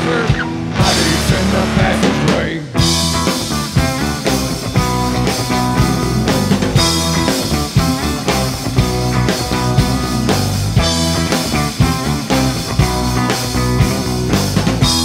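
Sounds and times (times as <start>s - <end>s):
drum kit steady beat: 0.0s - 15.0s
electric guitars: 0.0s - 15.0s.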